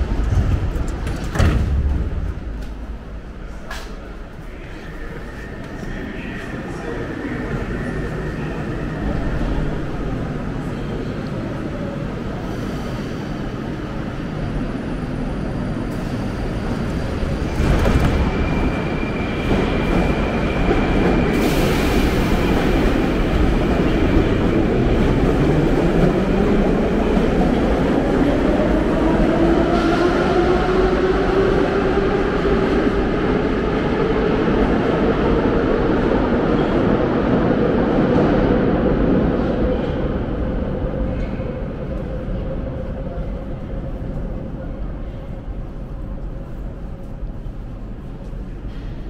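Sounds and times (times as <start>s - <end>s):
metro train rumbling: 0.0s - 49.0s.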